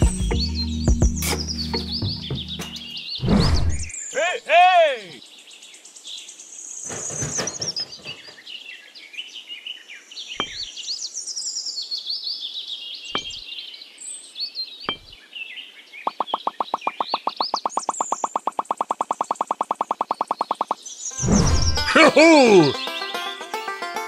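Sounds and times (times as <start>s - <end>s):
small birds chirping: 0.0s - 23.4s.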